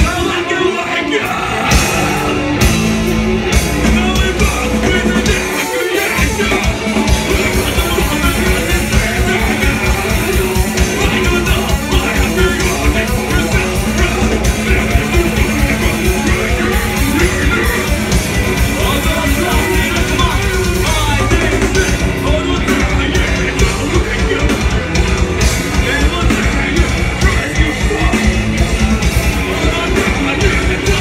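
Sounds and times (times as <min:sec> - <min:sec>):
bass guitar: 0:00.0 - 0:31.0
distorted electric guitars: 0:00.0 - 0:31.0
fast drums: 0:00.0 - 0:31.0.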